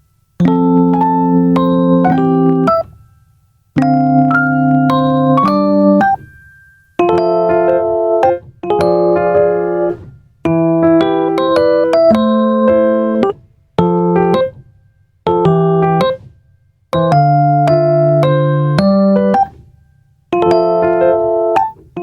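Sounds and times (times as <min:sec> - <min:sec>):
electric piano melody: 0:00.0 - 0:03.1, 0:03.8 - 0:14.6, 0:15.3 - 0:16.2, 0:17.0 - 0:19.5, 0:20.3 - 0:22.0.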